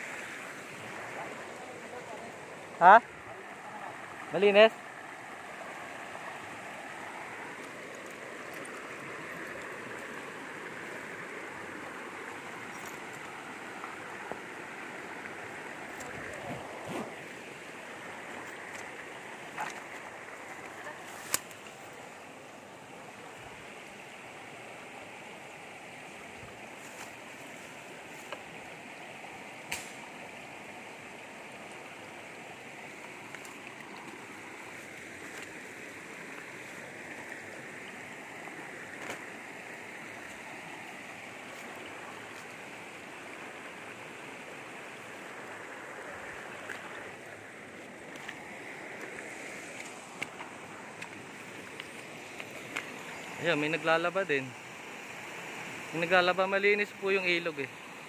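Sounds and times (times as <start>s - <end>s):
river rushing over stones: 0.0s - 58.0s.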